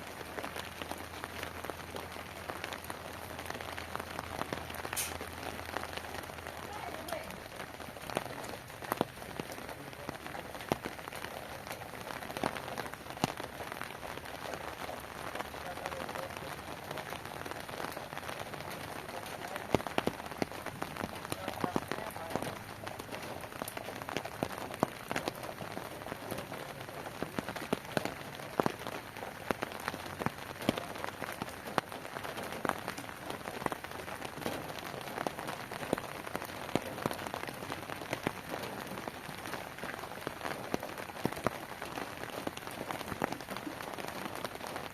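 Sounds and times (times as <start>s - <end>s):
heavy rain falling: 0.0s - 44.9s
sharp raindrop impacts: 0.0s - 44.9s.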